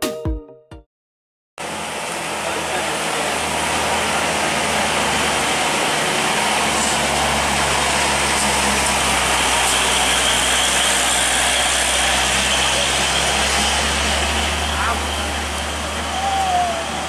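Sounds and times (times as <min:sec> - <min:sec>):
diesel truck engine drone: 0:01.6 - 0:17.0
road noise: 0:01.6 - 0:17.0.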